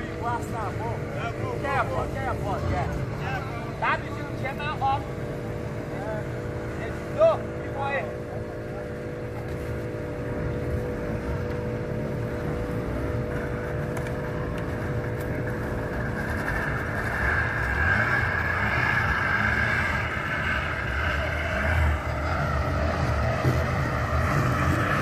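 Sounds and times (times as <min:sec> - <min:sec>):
outboard motor droning: 0:00.0 - 0:25.0.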